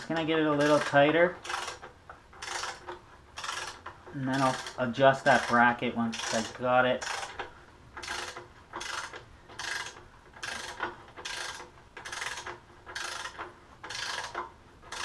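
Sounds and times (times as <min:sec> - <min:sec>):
torque wrench ratchet clicking: 0:00.0 - 0:15.0.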